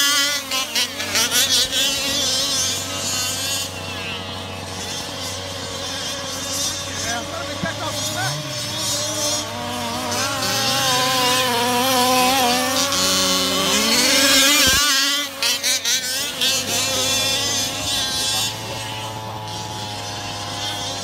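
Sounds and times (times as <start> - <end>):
rc car engines revving: 0.0 - 21.0.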